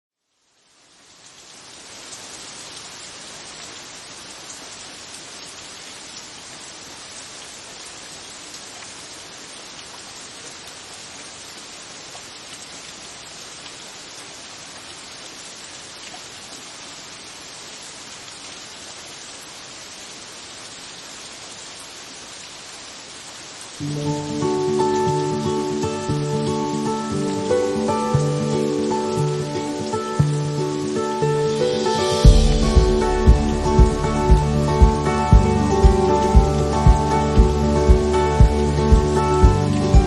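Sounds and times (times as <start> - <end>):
falling water rushing: 0.7 - 40.0.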